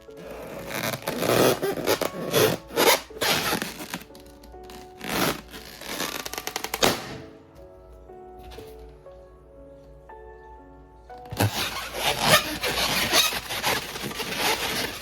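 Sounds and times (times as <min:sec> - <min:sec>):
light background music: 0:00.0 - 0:15.0.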